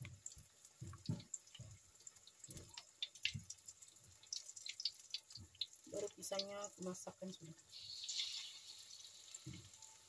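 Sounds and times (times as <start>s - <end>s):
oil sizzling and crackling: 0.0s - 10.0s.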